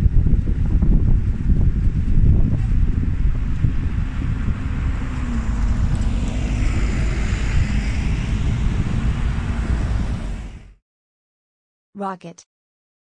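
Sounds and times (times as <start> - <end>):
wind buffeting microphone: 0.0 - 10.7
bus engine rumble: 0.0 - 10.8
road noise: 0.0 - 10.8.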